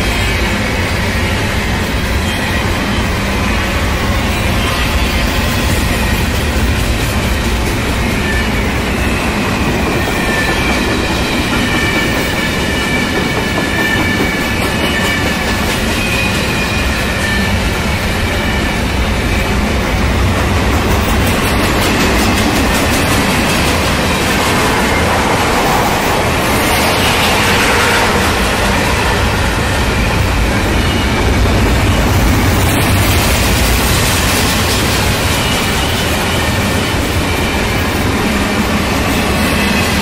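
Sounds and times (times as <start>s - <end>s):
freight train wheels rumbling: 0.0s - 40.0s
wheels clickety-clack on track: 0.0s - 40.0s.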